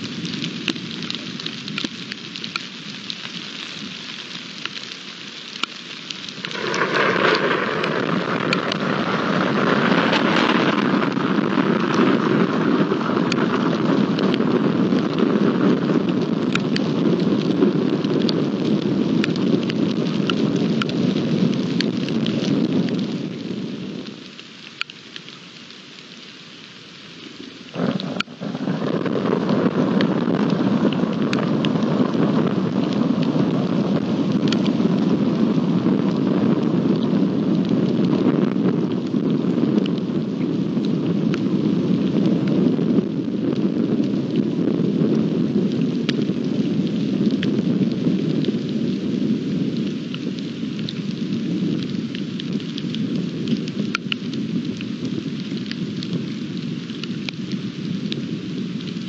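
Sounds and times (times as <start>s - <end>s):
heavy rain: 0.0s - 59.0s
raindrops ticking close by: 0.0s - 59.0s
thunder rumbling: 6.3s - 24.2s, 27.7s - 59.0s.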